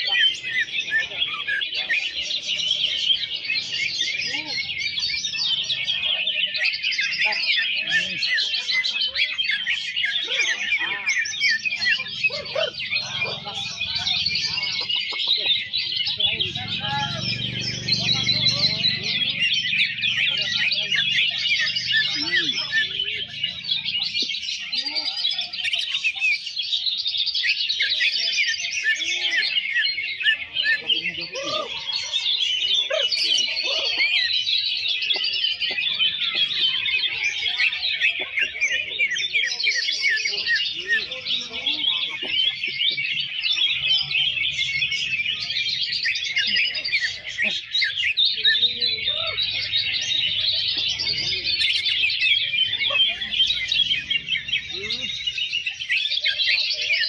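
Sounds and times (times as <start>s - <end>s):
chorus of birds chirping: 0.0s - 57.0s.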